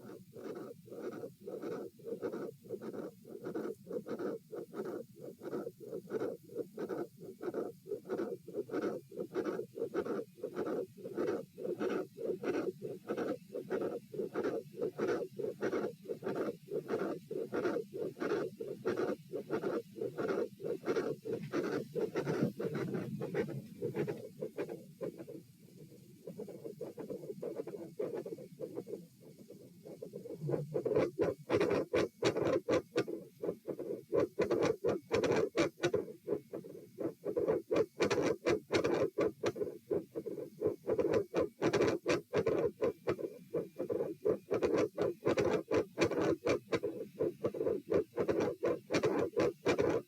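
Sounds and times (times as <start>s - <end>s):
heart murmur: 0.0s - 25.4s, 26.2s - 50.0s
heartbeat through stethoscope: 0.0s - 25.4s, 26.2s - 50.0s.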